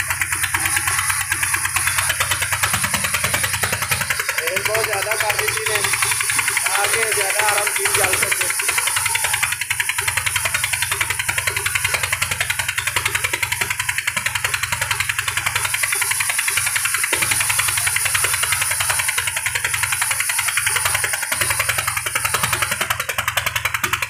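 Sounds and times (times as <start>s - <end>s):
band saw cutting log: 0.0s - 24.0s.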